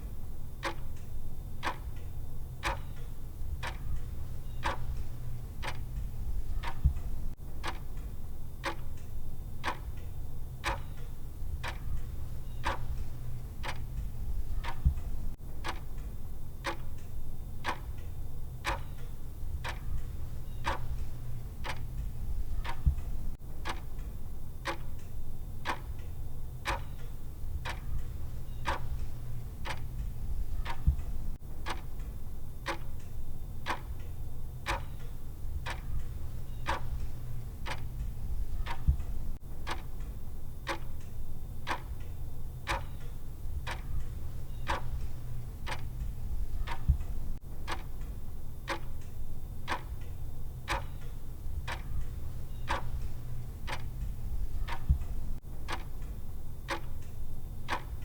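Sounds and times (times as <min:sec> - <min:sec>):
steady low hum: 0:00.0 - 0:58.0
clock ticking: 0:00.6 - 0:58.0.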